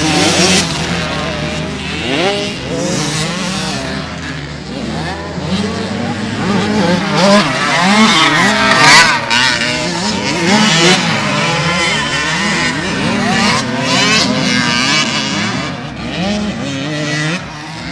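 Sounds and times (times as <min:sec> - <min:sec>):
motocross bikes revving: 0:00.0 - 0:17.9.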